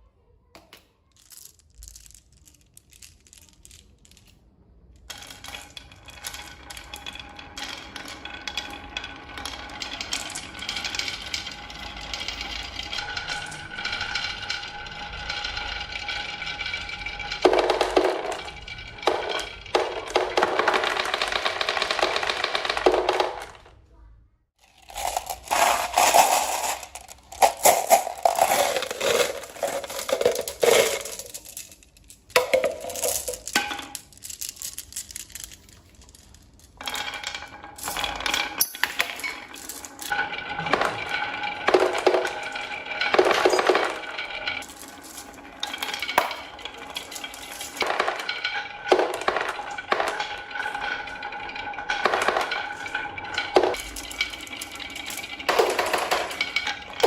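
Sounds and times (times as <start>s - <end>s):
small hard objects clinking: 0.6s - 23.8s, 24.6s - 57.0s.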